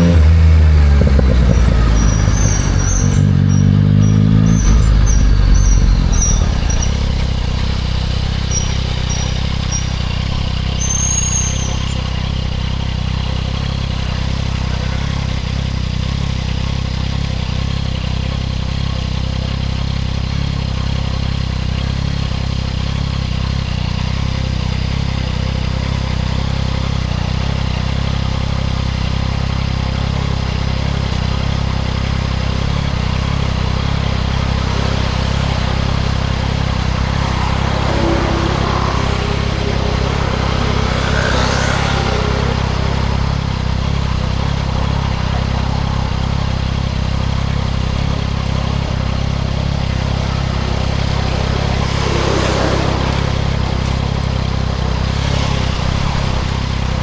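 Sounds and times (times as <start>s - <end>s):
motorcycle engine running low: 0.0s - 57.0s.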